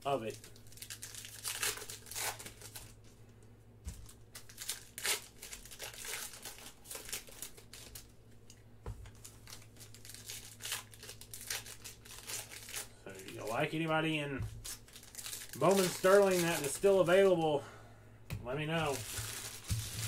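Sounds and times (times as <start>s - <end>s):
foil pack crinkling: 0.0s - 3.2s, 3.9s - 8.1s, 9.1s - 17.4s, 18.6s - 20.0s.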